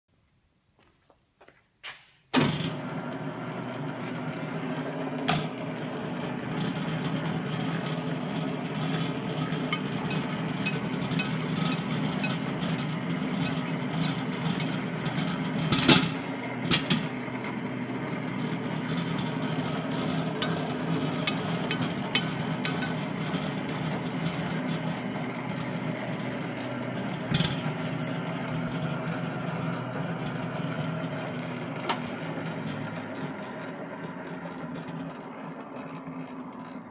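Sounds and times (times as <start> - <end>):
mixer motor and gearbox hum: 2.4 - 36.9.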